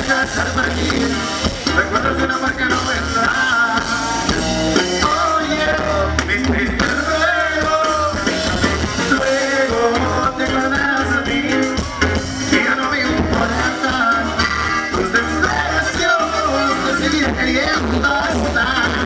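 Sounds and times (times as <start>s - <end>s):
accordion: 0.0s - 19.0s
drum kit beat: 0.0s - 19.0s
electric bass: 0.0s - 19.0s
man singing: 0.0s - 19.0s.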